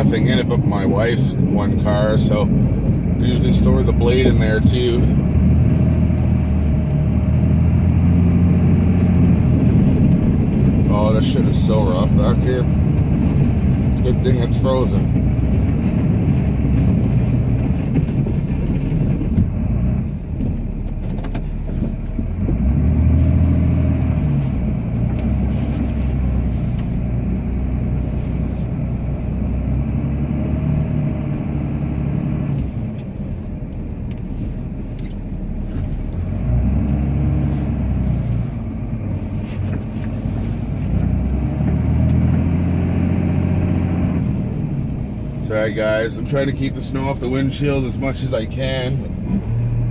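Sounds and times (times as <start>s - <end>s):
diesel engine revving: 0.0s - 49.9s
plow blade pushing snow: 0.0s - 49.9s.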